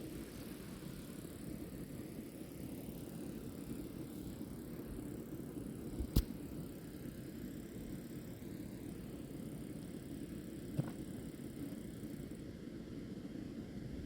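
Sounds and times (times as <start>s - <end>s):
low rumbling outdoor ambience: 0.0s - 14.0s.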